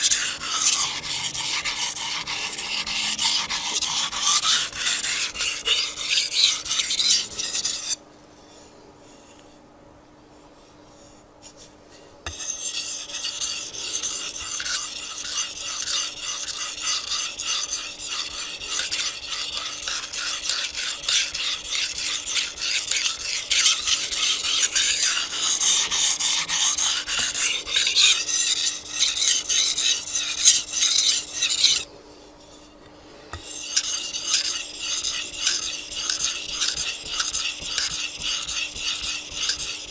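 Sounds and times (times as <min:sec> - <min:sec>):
knife scraping on whetstone: 0:00.0 - 0:08.0, 0:12.3 - 0:39.9.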